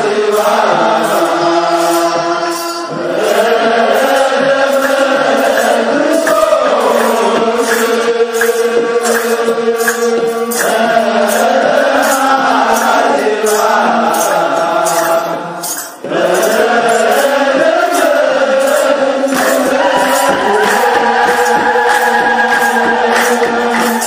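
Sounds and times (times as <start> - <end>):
men chanting together: 0.0 - 24.0
rhythmic hand claps: 0.0 - 24.0.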